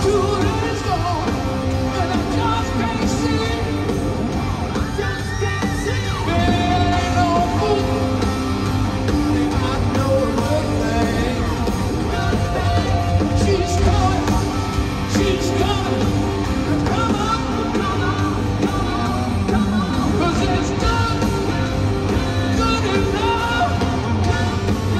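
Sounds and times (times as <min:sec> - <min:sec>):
live rock band playing: 0:00.0 - 0:24.9
man singing and yelling: 0:00.0 - 0:24.9.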